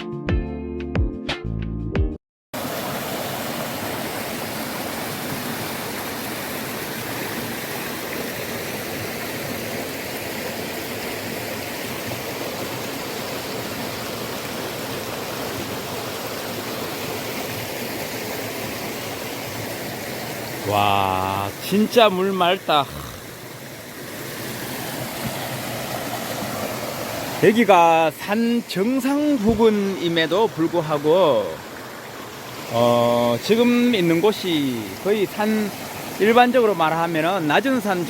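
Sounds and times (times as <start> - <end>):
stream rushing: 2.6 - 38.0.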